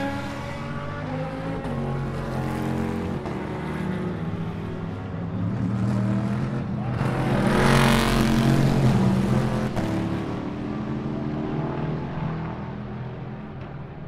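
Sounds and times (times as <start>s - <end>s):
race cars passing at speed: 0.0s - 14.0s.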